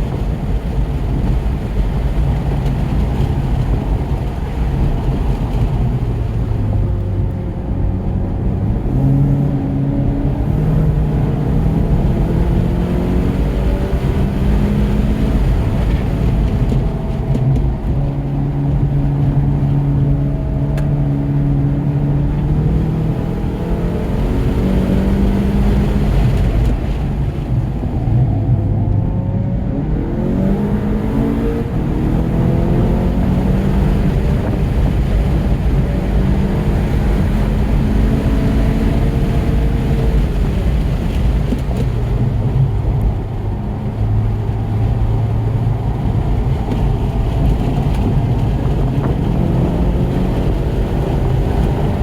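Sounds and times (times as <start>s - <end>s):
car engine accelerating: 0.0s - 52.0s
road and wind noise: 0.0s - 52.0s.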